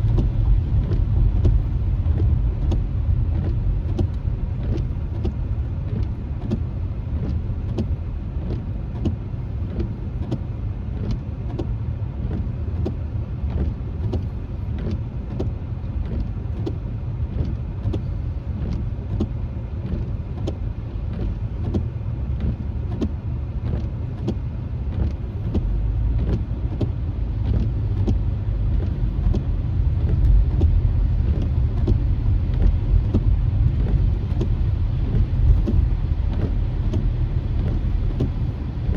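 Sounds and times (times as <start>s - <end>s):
raindrops ticking on windshield: 0.0s - 38.9s
tyre and road rumble: 0.0s - 38.9s.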